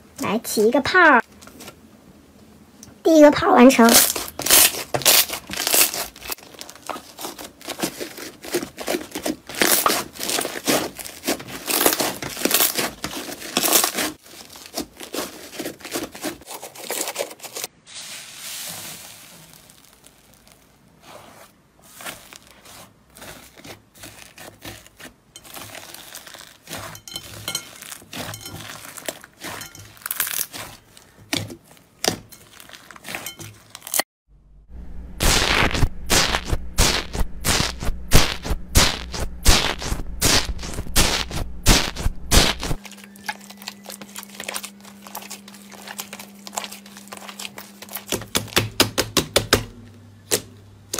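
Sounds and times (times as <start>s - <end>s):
crunchy slime crackling: 3.5s - 17.7s, 18.5s - 34.0s, 35.2s - 49.0s.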